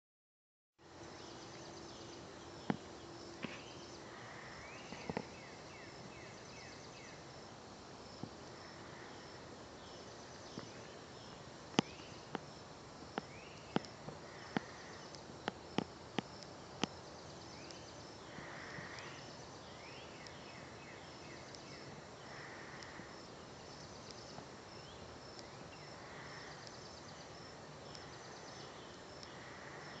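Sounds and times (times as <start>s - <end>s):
softer insect calls: 0.8s - 30.0s
night insects chirping: 0.9s - 30.0s.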